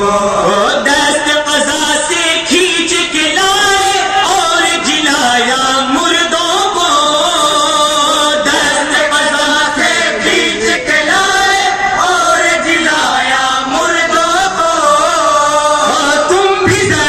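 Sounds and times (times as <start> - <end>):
men chanting together: 1.6 - 17.0.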